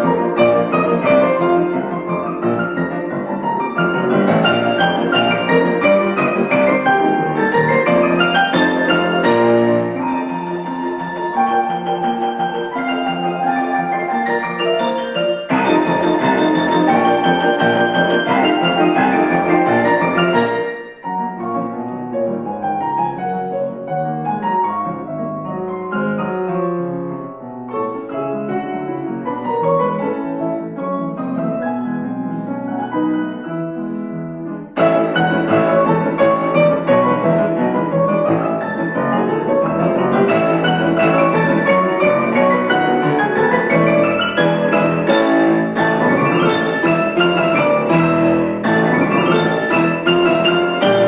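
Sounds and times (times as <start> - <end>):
classical piano music: 0.0 - 51.0.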